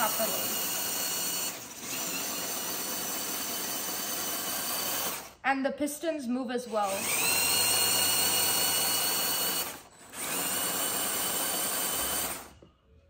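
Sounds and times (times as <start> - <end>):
toy motors whining: 0.0 - 5.4, 6.6 - 12.6.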